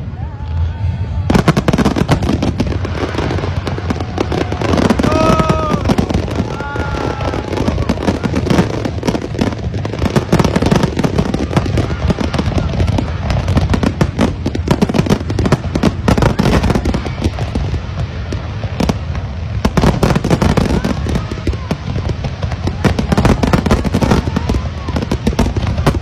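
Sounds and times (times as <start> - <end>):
deep rumble: 0.0 - 26.0
fireworks bangs and crackles: 0.0 - 26.0.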